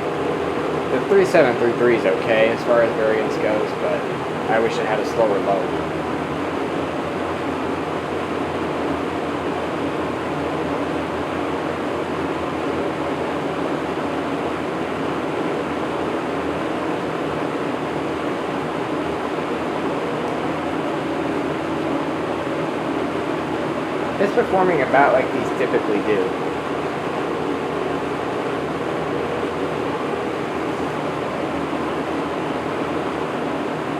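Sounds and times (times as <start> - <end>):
box fan running: 0.0 - 33.9.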